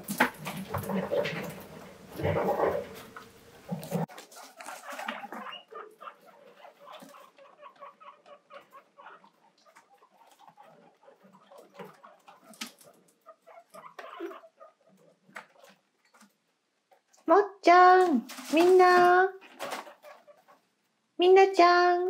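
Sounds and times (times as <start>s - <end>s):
guinea pigs squeaking: 0.0s - 20.8s.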